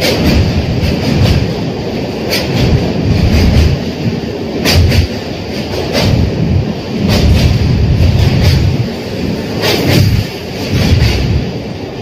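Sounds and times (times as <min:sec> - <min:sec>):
wheels clicking over rail joints: 0:00.0 - 0:11.6
train wheels rumbling on rails: 0:00.0 - 0:12.0.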